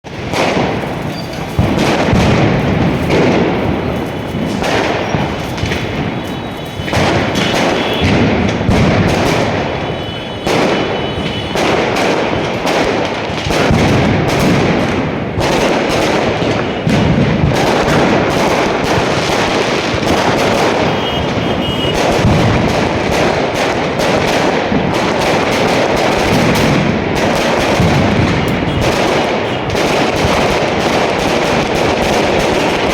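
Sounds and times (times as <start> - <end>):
firecrackers crackling: 0.0 - 32.9.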